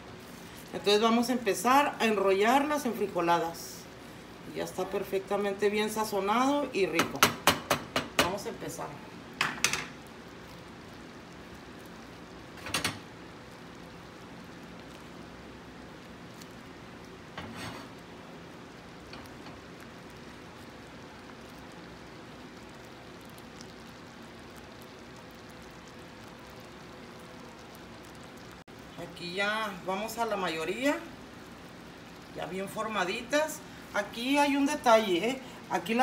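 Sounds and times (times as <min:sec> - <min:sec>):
sauce simmering with bubbling hiss: 0:00.0 - 0:36.0.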